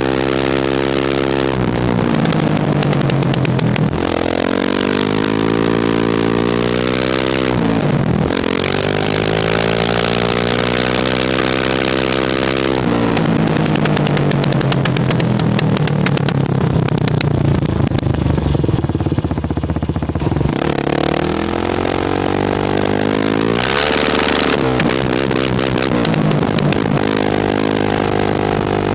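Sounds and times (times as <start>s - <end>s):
atv engine revving: 0.0s - 28.9s
exhaust popping: 0.0s - 28.9s.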